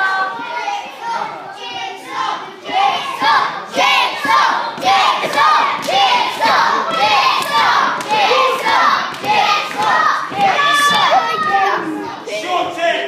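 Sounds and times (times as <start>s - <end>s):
crowd shouting and yelling: 0.0s - 13.0s.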